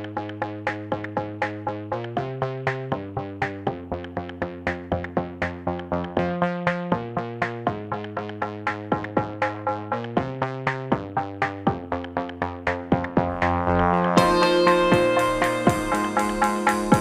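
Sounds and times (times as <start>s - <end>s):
electronic synthesizer music: 0.0s - 17.0s.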